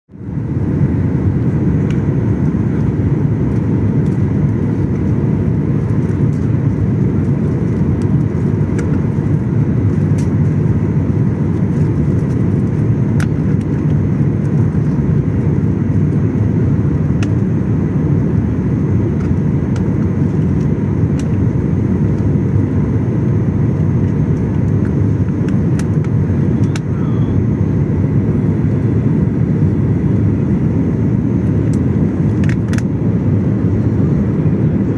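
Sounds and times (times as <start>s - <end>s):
jet engine rumble in cabin: 0.1s - 34.9s.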